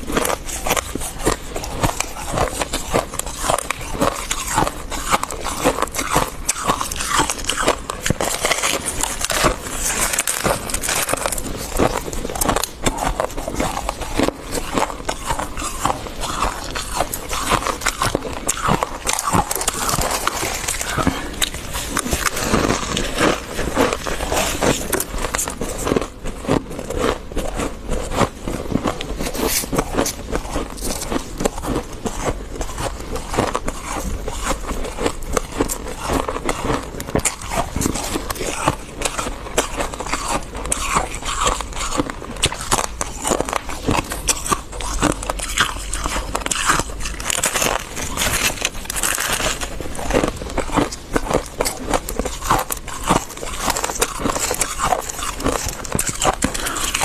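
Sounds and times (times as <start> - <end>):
chewing crunchy frost: 0.0 - 57.0.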